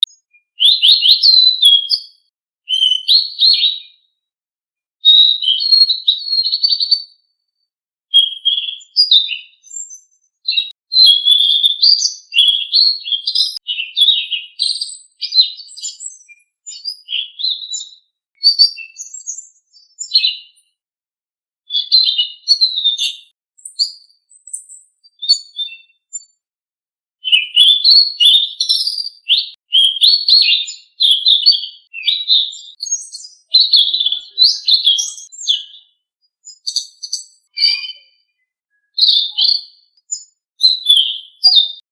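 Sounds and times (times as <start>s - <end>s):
songbird chirping and twittering: 0.0s - 4.1s, 5.0s - 20.8s, 21.7s - 26.4s, 27.2s - 41.9s.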